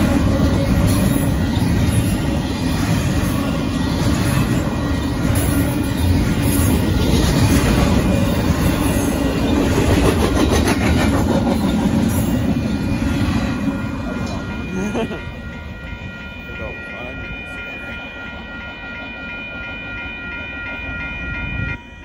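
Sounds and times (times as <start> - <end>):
crossing signal bell ringing: 0.0 - 10.2, 11.3 - 22.0
freight train rumbling past: 0.0 - 22.0.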